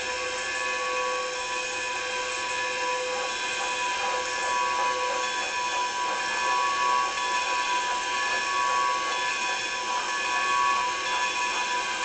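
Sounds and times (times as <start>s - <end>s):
train mechanical whine and hum: 0.0s - 12.0s.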